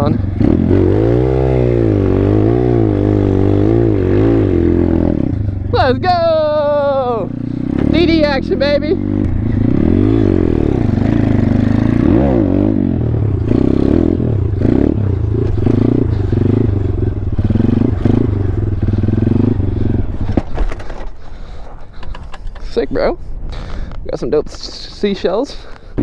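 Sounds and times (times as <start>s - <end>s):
motorbike engine revving: 0.0s - 21.0s.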